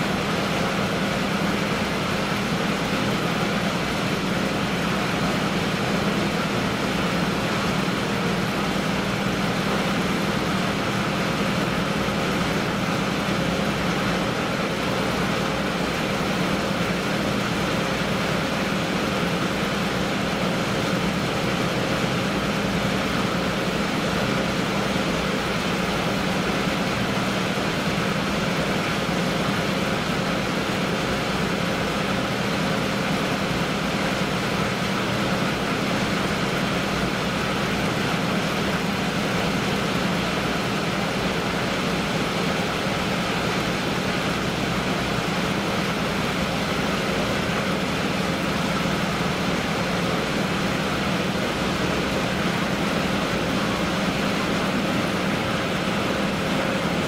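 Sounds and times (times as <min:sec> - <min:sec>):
ship diesel engine drone: 0:00.0 - 0:57.0.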